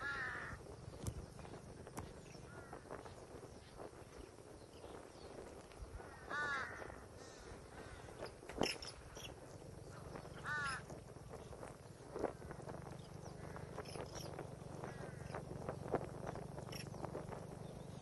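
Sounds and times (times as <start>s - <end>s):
faint chirps and ticks: 0.0s - 18.0s
loud bird calls: 0.0s - 18.0s.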